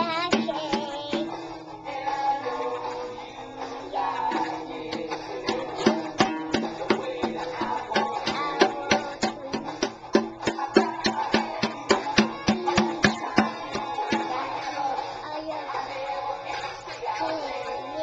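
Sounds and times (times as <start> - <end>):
music with sharp percussive beat: 0.0 - 15.2.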